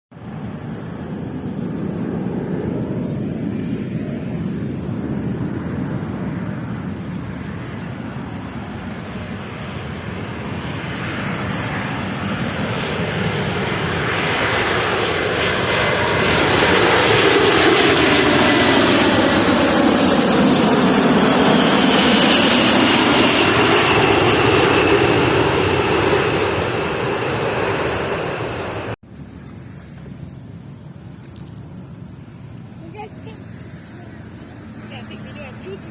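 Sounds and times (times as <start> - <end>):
jet airliner flying overhead: 0.1 - 35.9
jet engine whine: 0.1 - 35.9.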